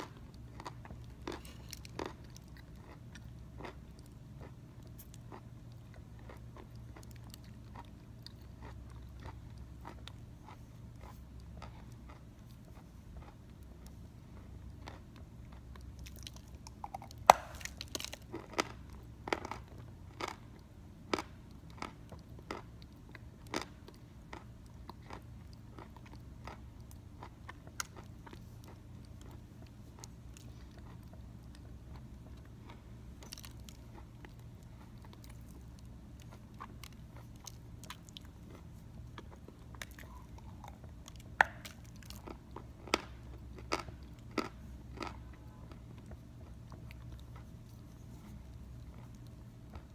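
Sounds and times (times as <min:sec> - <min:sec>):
chewing: 0:00.0 - 0:49.9
teeth crunching chalk: 0:00.0 - 0:49.9.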